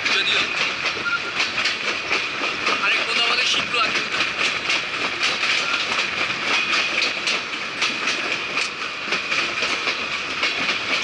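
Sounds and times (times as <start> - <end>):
train wheels clattering over rail joints: 0.0 - 11.0.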